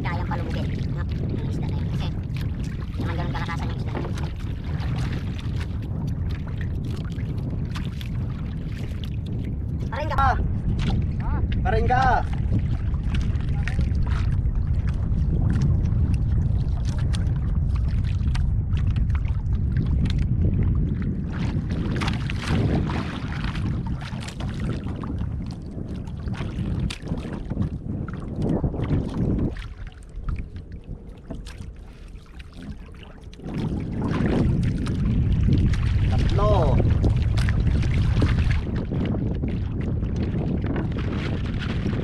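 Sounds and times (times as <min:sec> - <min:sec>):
water lapping against boat hull: 0:00.0 - 0:42.0
wind rumbling on microphone: 0:00.0 - 0:42.0
wooden paddle stroking water: 0:00.0 - 0:42.0.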